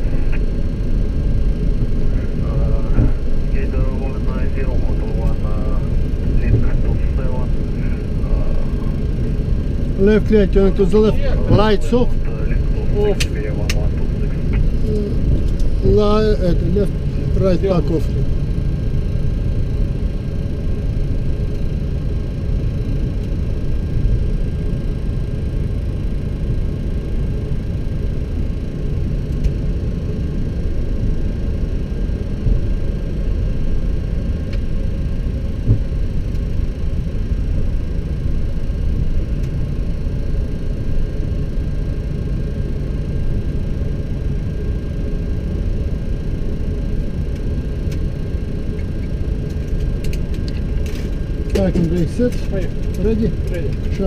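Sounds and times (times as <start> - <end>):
aircraft engines idling rumble: 0.0 - 54.0.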